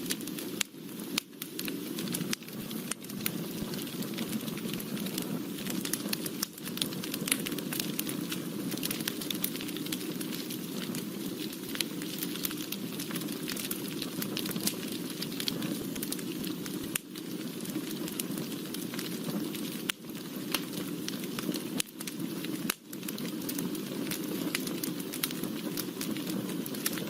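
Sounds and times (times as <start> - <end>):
crackles and pops of burning wood: 0.0 - 27.0
wood fire rushing flames: 0.0 - 27.0.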